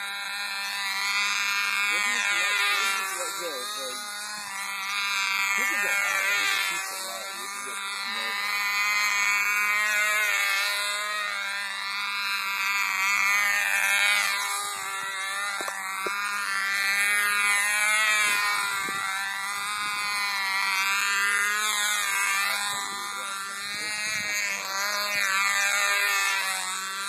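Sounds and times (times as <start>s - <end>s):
model airplane engine buzzing: 0.0s - 27.0s.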